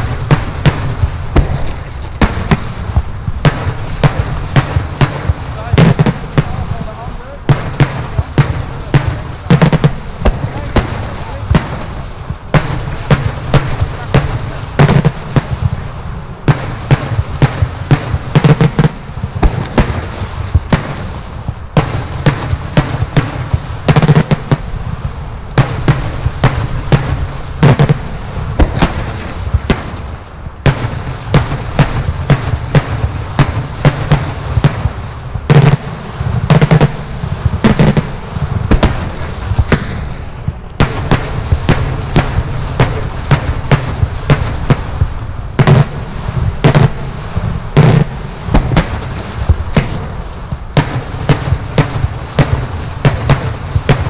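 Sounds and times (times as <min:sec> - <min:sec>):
low rumble: 0:00.0 - 0:53.0
fireworks bangs: 0:00.0 - 0:54.0.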